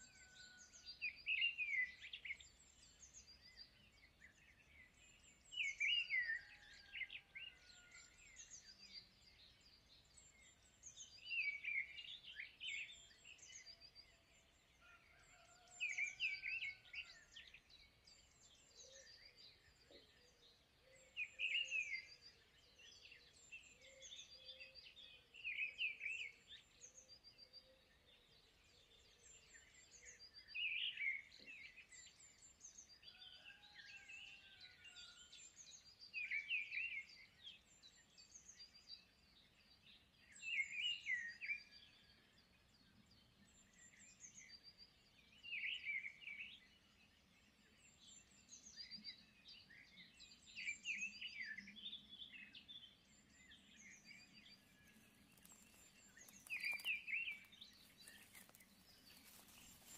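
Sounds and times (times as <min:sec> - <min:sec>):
bird song phrase: 0:00.0 - 0:59.9.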